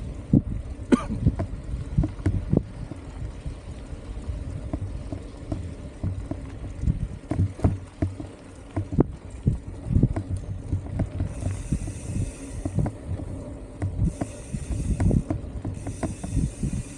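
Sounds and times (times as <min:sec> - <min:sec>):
wind rumble on microphone: 0:00.0 - 0:16.9
bike knocks and rattles: 0:00.8 - 0:03.6, 0:04.5 - 0:16.9.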